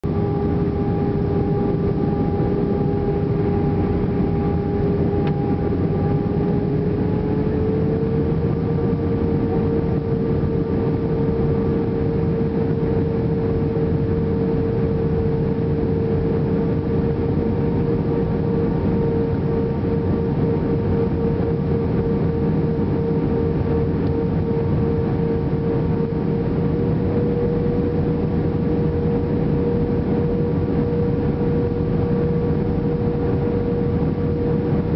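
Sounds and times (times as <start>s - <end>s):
jet engine roar in cabin: 0.0s - 34.9s.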